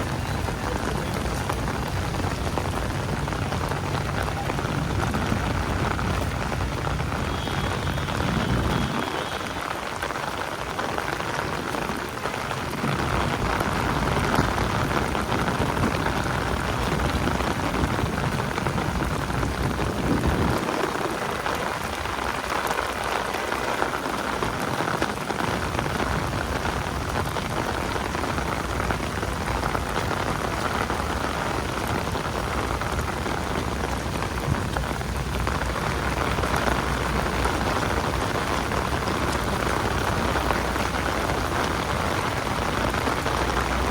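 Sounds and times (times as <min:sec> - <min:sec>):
rain on pavement: 0:00.0 - 0:43.9.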